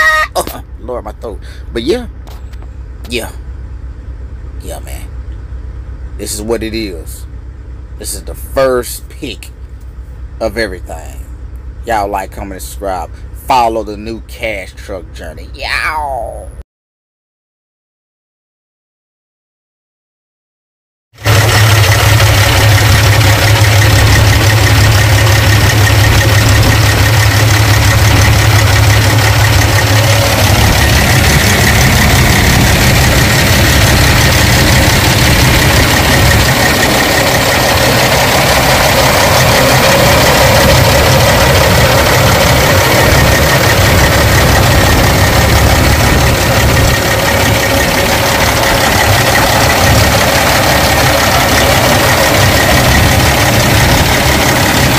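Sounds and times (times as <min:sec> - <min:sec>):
truck diesel engine idling: 0:00.0 - 0:15.4, 0:21.2 - 0:54.9.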